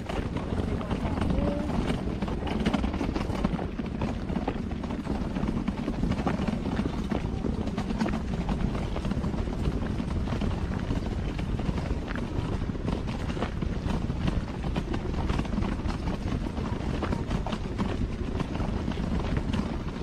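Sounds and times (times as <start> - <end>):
footsteps on gravel trail: 0.0 - 20.0
wind rumble: 0.0 - 20.0.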